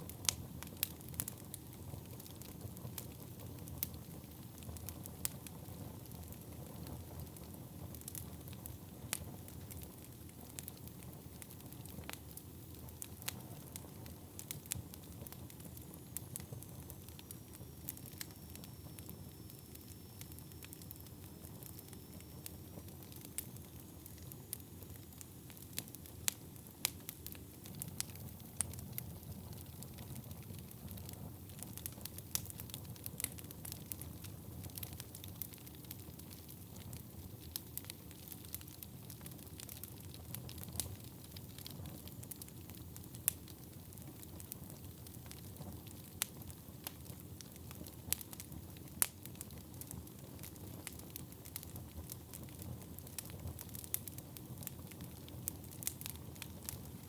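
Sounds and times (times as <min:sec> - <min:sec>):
fire flames rumbling: 0:00.0 - 0:19.0, 0:20.3 - 0:57.0
burning wood crackling: 0:00.0 - 0:57.0.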